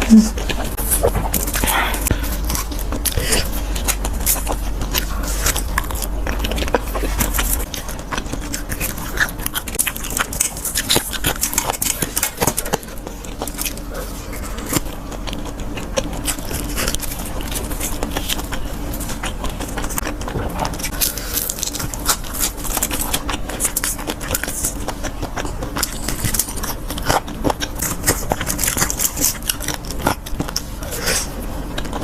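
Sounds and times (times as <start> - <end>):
crunching and chewing food: 0.0 - 32.0.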